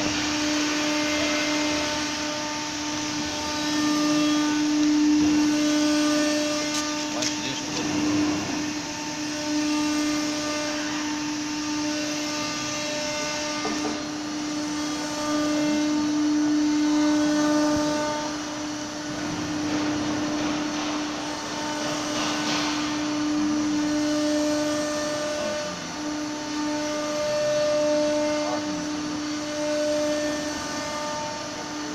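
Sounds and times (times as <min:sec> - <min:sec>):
cnc machine whine: 0:00.0 - 0:31.9.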